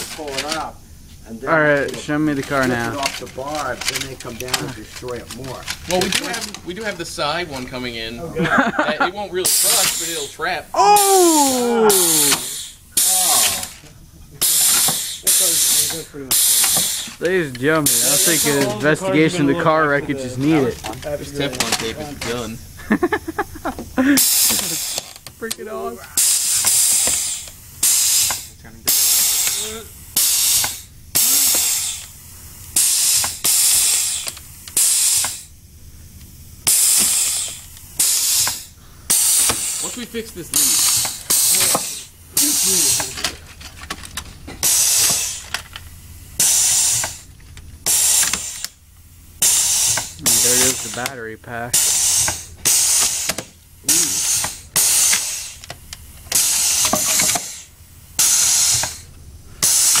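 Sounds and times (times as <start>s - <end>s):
compressed air blasts: 0.0s - 6.1s, 8.5s - 13.8s, 14.4s - 19.0s, 20.3s - 60.0s.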